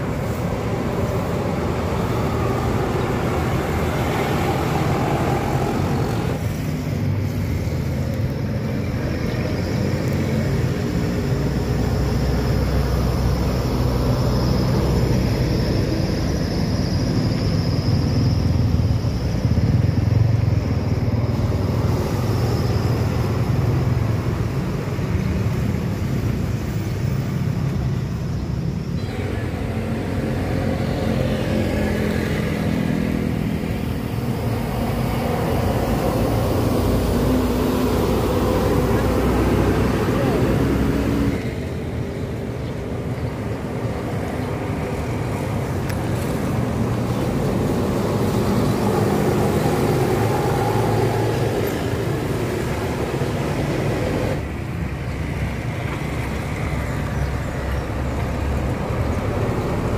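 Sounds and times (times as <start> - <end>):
bus diesel engine rumble: 0.0 - 59.9
motorcycles passing: 0.0 - 59.9.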